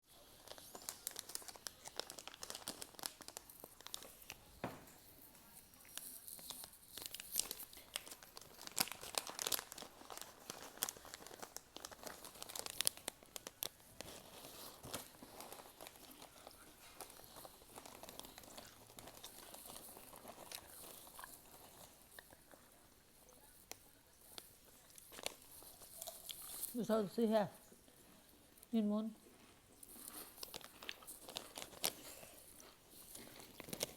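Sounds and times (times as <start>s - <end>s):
plastic packet crinkling: 0.1s - 27.4s, 29.7s - 33.9s.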